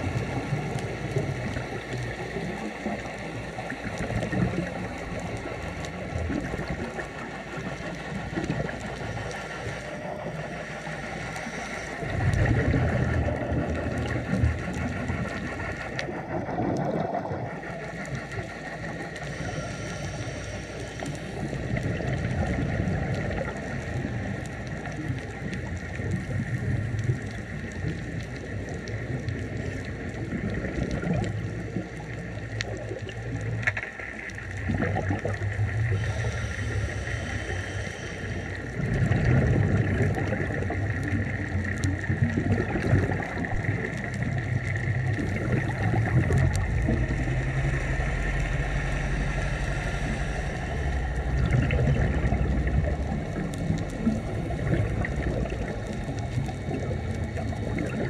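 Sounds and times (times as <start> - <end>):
diver's bubbles gurgling: 0.0 - 58.0
steady underwater drone: 0.0 - 58.0.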